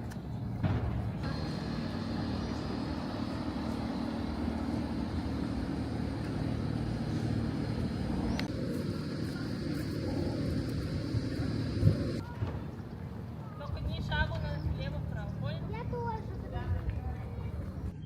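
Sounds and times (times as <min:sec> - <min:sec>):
engine hum: 0:00.0 - 0:18.0
traffic rumble: 0:00.0 - 0:18.0.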